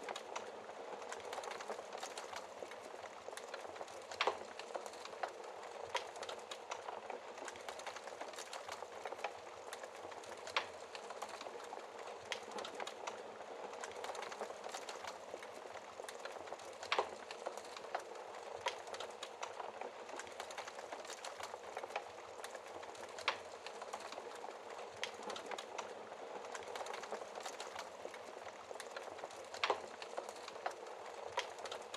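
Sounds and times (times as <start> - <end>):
soft hiss of fire: 0.0 - 31.9
wood fire crackling: 0.0 - 31.9.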